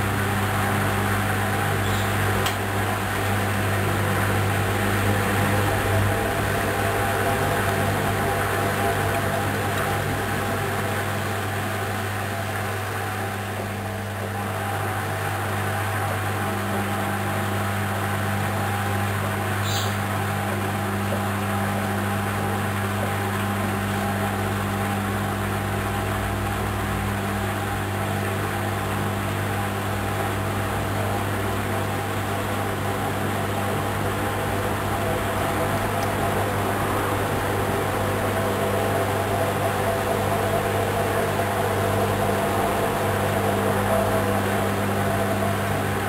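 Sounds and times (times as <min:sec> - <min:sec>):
washing machine hum: 0:00.0 - 0:46.0.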